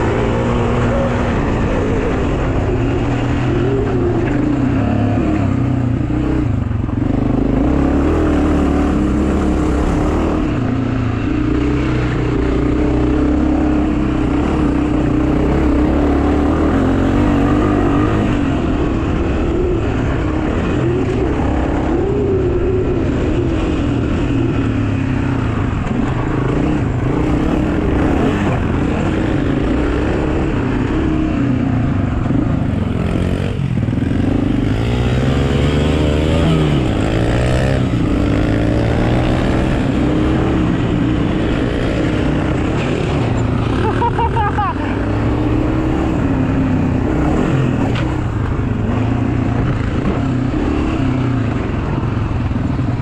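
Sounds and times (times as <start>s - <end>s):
pit bike engines revving: 0.0s - 53.0s.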